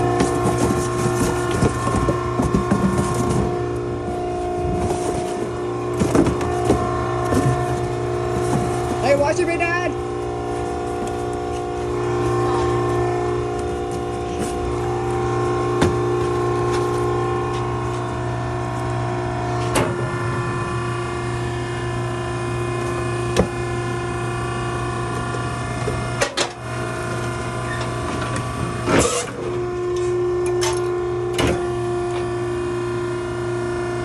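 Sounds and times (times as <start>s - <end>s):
hydraulic power unit humming: 0.0s - 34.0s.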